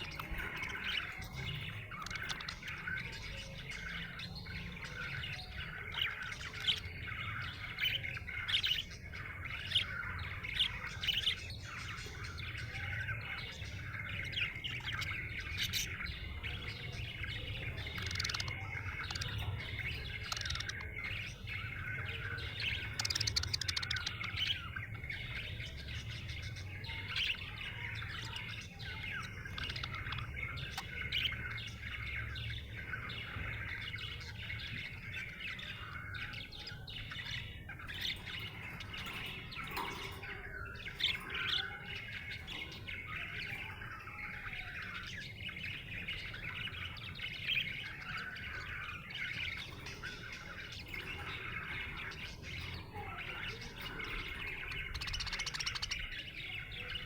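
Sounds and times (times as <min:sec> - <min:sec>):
budgerigar chirping and warbling: 0:00.0 - 0:57.0.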